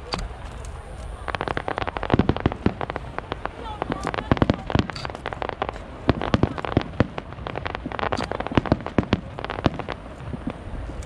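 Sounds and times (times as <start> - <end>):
crackling fireworks bangs: 0.0 - 11.0
fireworks bangs: 0.0 - 11.0.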